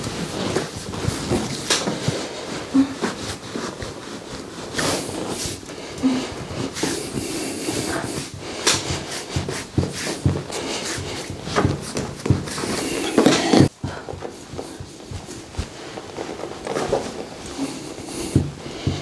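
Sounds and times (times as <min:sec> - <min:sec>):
fabric rubbing and swishing: 0:00.0 - 0:19.0.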